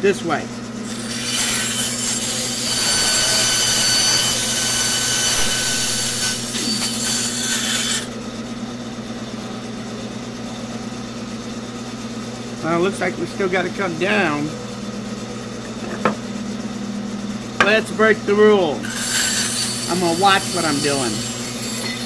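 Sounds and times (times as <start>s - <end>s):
bandsaw motor humming: 0.0s - 22.0s.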